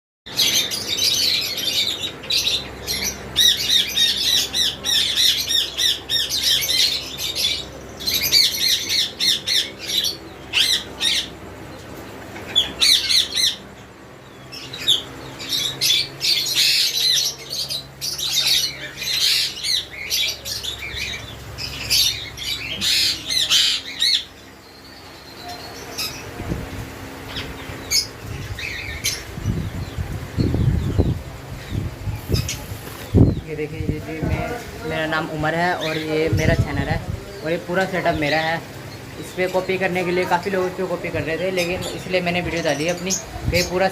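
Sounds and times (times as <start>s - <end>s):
caged birds chirping and squawking: 0.3s - 43.9s.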